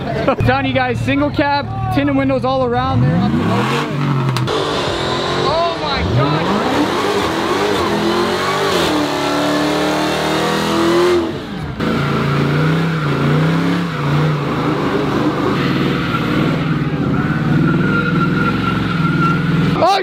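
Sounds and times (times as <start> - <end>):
car engine revving: 0.5 - 20.0.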